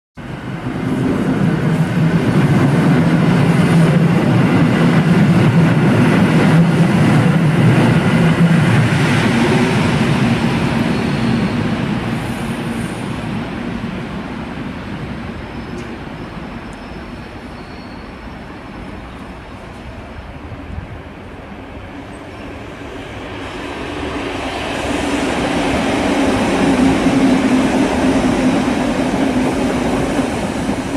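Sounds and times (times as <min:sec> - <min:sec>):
electric train passing: 0:00.2 - 0:30.9.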